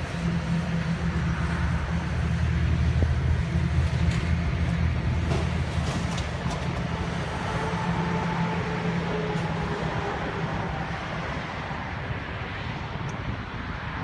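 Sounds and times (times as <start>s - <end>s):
excavator diesel engine running: 0.0s - 12.4s.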